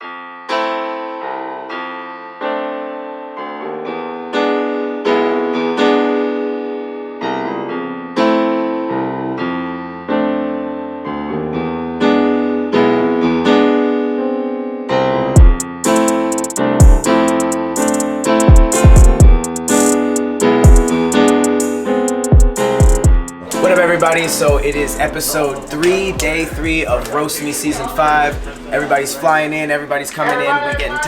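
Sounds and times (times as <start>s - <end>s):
slow piano chords: 0.0s - 29.3s.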